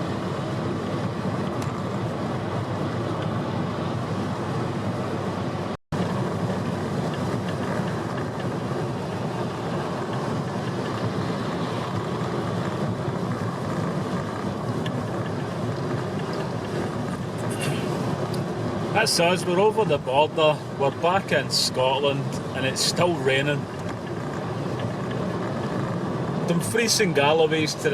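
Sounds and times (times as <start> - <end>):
tyres on wet road: 0.0 - 27.9.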